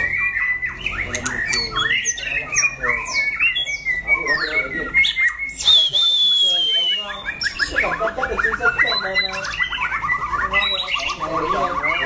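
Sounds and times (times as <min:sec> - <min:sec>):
songbirds singing and calling: 0:00.0 - 0:12.0.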